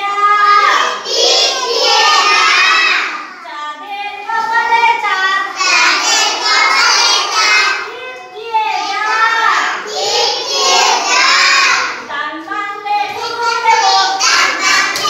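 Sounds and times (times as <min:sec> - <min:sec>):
children singing together: 0:00.0 - 0:12.1, 0:12.7 - 0:15.0.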